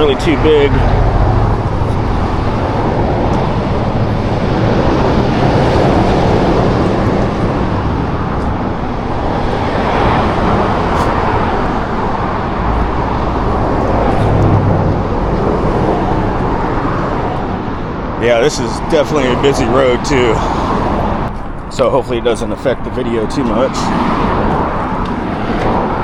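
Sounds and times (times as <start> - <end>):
cars passing on busy road: 0.0 - 26.0.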